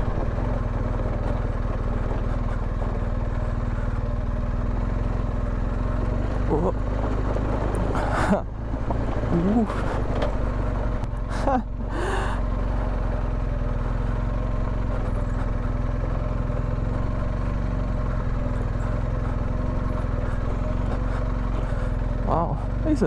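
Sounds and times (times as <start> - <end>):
motorcycle engine idling low: 0.0 - 23.0.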